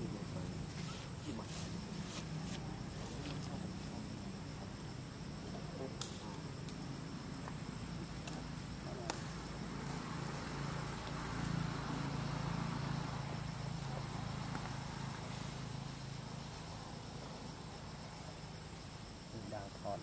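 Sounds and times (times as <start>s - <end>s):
faint hiss: 0.0s - 20.0s
steady low hum: 0.0s - 20.0s.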